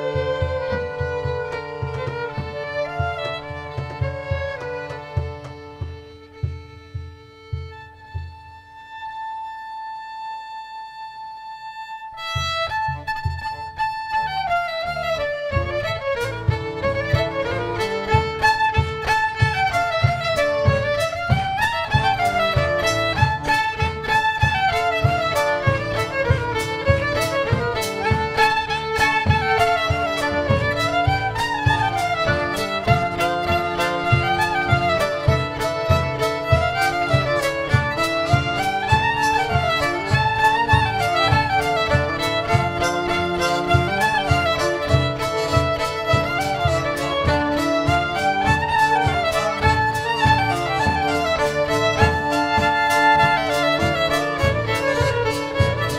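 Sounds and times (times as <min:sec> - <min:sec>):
fiddle melody: 0:00.0 - 0:55.9
folk band playing: 0:00.0 - 0:55.9.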